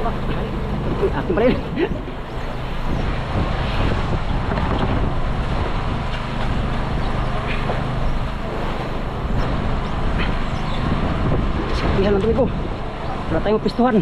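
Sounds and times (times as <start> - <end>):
boat engine running: 0.0 - 14.0
wind on microphone: 0.0 - 14.0.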